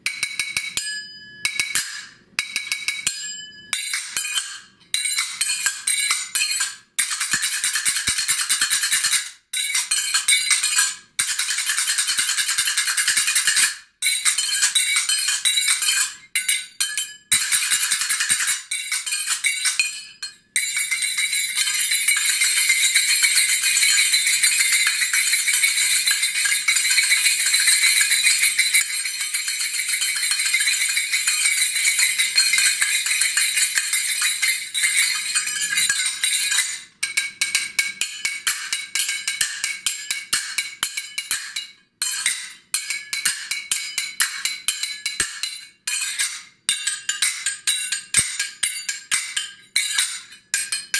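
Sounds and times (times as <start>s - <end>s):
finger cymbals striking: 0.0s - 50.9s.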